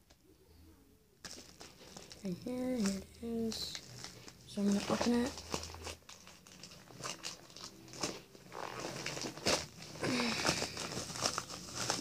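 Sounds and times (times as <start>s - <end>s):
packaging rustling and crinkling: 1.2s - 12.0s.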